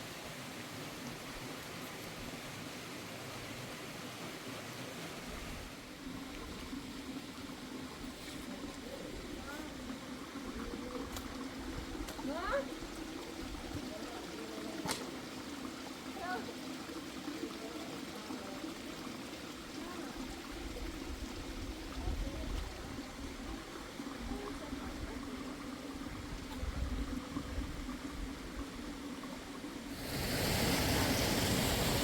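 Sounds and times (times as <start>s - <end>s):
hissing rush of water: 0.0s - 32.0s
river water running: 0.0s - 32.0s.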